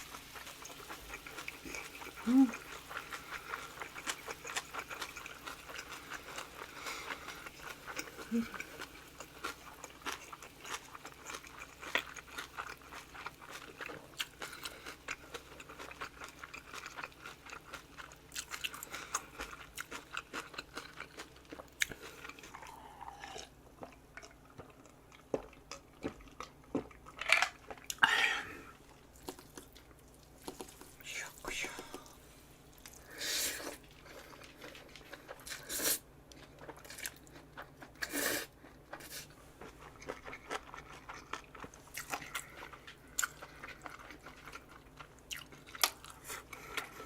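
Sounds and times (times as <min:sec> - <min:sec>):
chewing and crunching food: 0:00.0 - 0:47.0.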